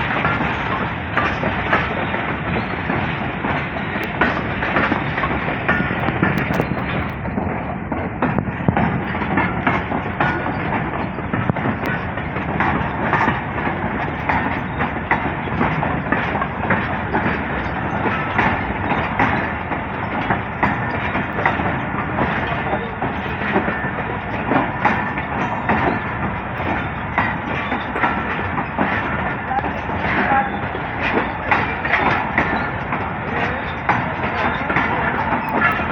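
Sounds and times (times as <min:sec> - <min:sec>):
train wheels clattering over rail joints: 0:00.0 - 0:35.9.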